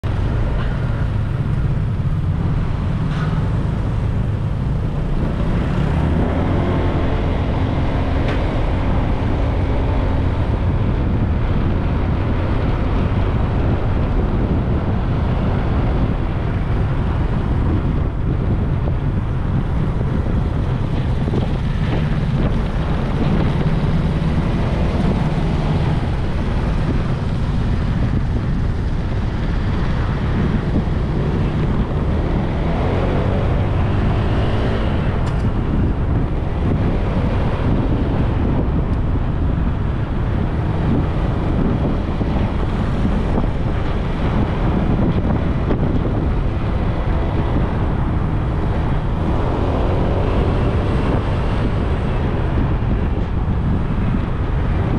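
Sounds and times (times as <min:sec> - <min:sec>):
passing traffic: 0:00.0 - 0:54.9
road noise: 0:00.0 - 0:54.9
wind on microphone: 0:00.0 - 0:54.9.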